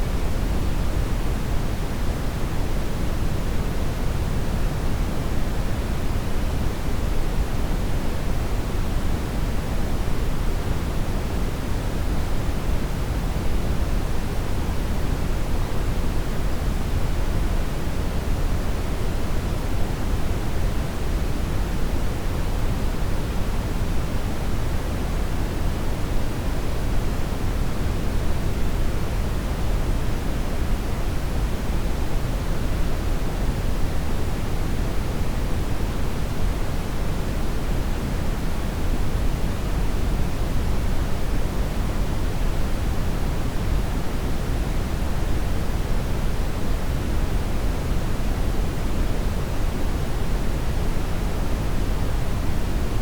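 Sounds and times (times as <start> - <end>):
brown noise hiss: 0.0 - 53.0.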